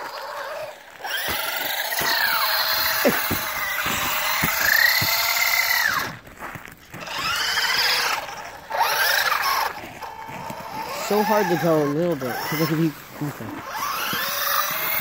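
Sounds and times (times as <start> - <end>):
electric toy car motor whining: 0.0 - 6.2, 6.9 - 15.0.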